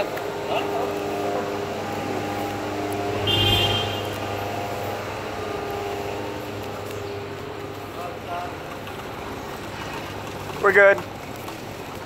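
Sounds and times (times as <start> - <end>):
car engine running: 0.0 - 11.0
street traffic: 0.0 - 12.0.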